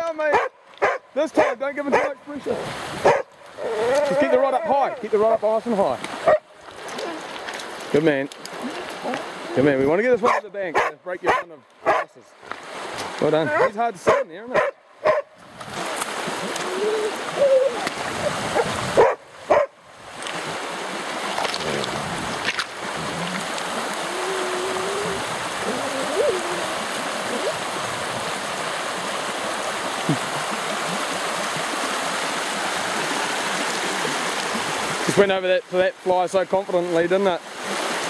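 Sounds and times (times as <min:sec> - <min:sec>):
water rushing over gravel: 0:00.0 - 0:38.0.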